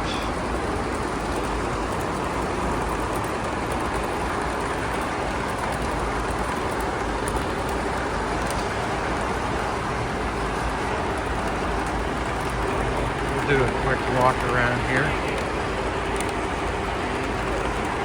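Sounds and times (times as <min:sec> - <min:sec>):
model trains running: 0:00.0 - 0:18.0.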